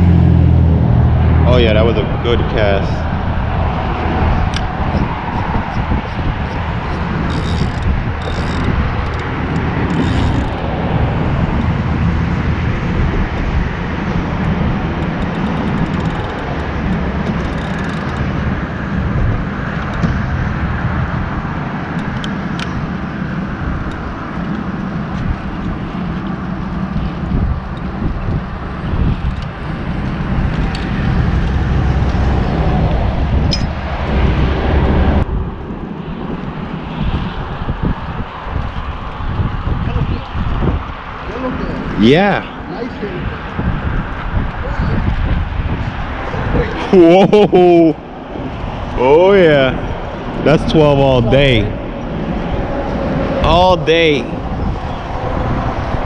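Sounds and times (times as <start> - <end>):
road traffic rumble: 0.0 - 56.0
wind buffeting microphone: 0.0 - 56.0.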